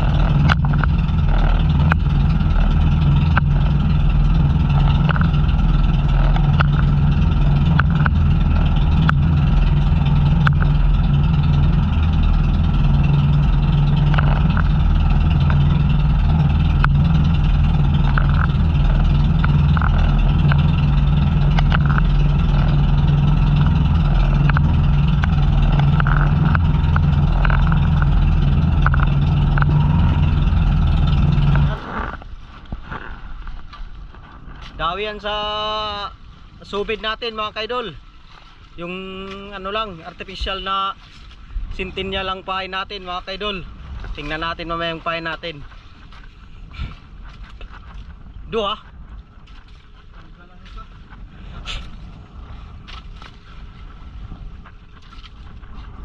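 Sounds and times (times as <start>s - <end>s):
boat engine running: 0.0s - 56.0s
rushing water: 0.0s - 56.0s
wind: 0.0s - 56.0s.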